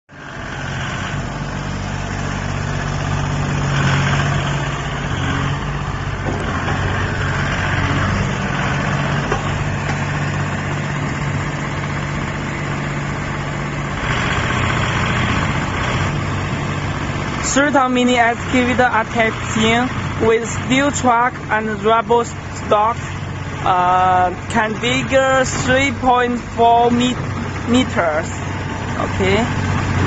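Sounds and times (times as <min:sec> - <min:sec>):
diesel engine idling: 0:00.1 - 0:30.0.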